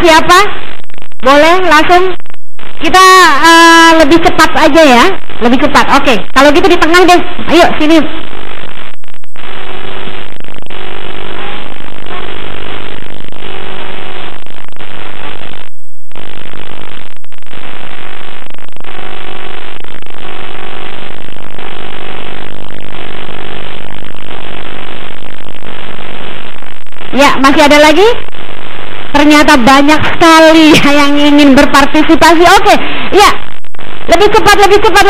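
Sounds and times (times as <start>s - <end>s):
harsh distorted noise: 0.0s - 35.0s
steady buzz: 6.3s - 34.9s.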